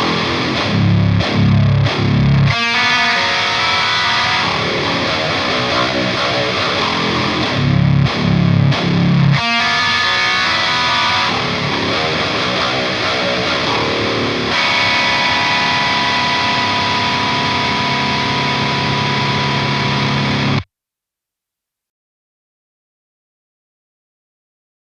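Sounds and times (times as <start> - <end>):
distorted electric guitar chords: 0.0 - 20.7.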